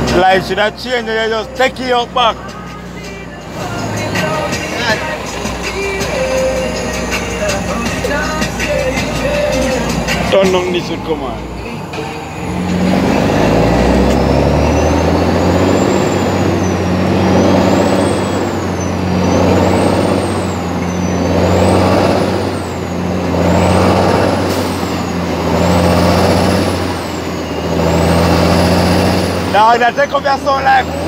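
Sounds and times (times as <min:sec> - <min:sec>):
truck diesel engine running: 0:00.0 - 0:31.0.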